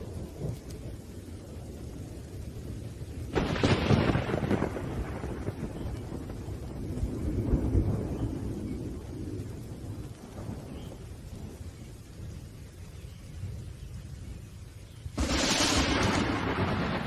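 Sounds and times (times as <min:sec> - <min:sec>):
rolling thunder: 0:00.0 - 0:14.4, 0:15.1 - 0:17.0
faint rain hissing: 0:00.0 - 0:17.0.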